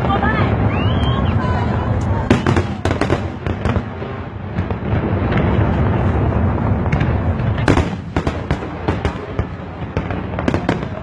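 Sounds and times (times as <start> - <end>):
fireworks sharp bangs: 0.0 - 11.0
rumble of distant fireworks: 0.0 - 11.0.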